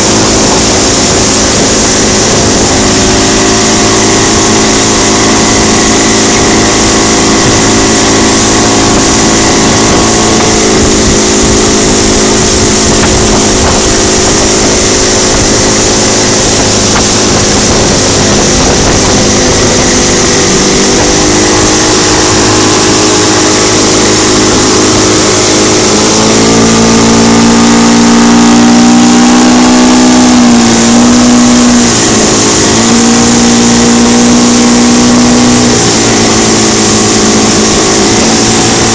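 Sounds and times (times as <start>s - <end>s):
outboard motor running: 0.0s - 38.9s
rushing water from wake: 0.0s - 38.9s
wind: 0.0s - 38.9s.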